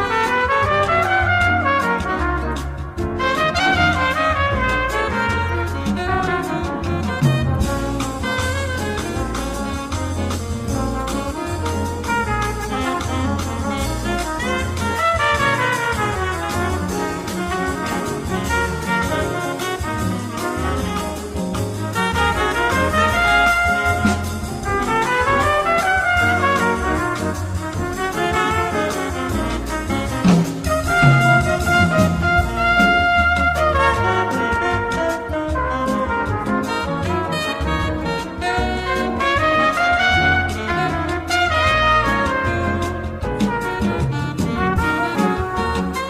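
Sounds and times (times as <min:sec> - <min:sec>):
brass background music: 0:00.0 - 0:46.0.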